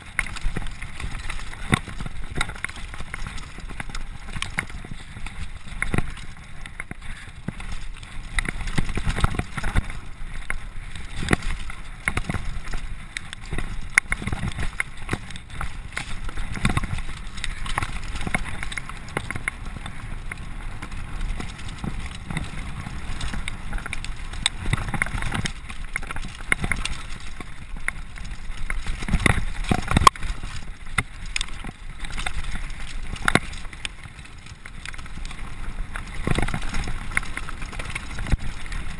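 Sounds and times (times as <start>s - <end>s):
bike clattering over roots and rocks: 0.0s - 38.9s
tyres on dirt: 0.0s - 38.9s.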